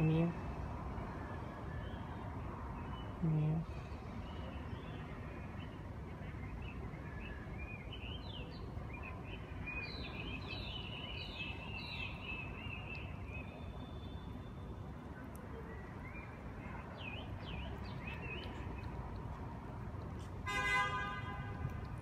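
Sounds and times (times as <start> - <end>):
small birds chirping and trilling: 2.8 - 20.4.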